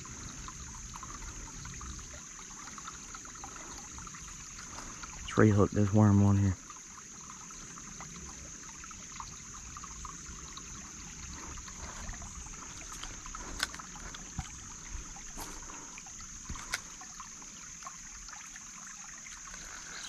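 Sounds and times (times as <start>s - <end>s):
creek water trickling: 0.0s - 20.0s.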